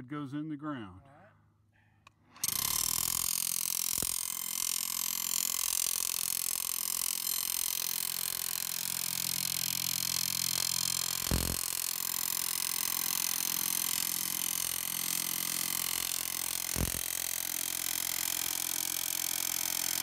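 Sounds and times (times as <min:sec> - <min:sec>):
power hammer driving rod: 0:02.4 - 0:19.1.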